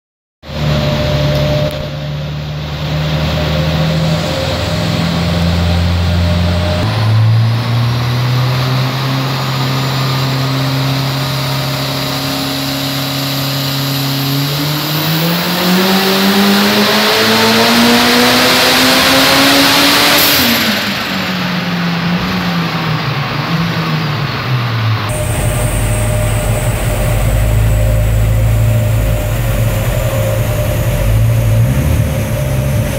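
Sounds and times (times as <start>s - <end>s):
turbocharged car engine revving: 0.5s - 32.9s.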